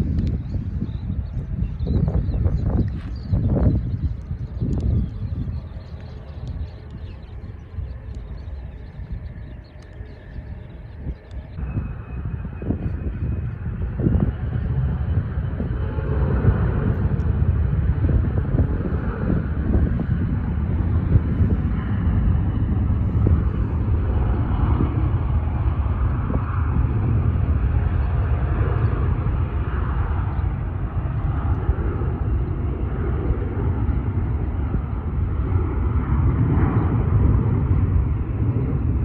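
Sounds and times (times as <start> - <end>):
distant jet engine rumble: 0.0 - 39.0.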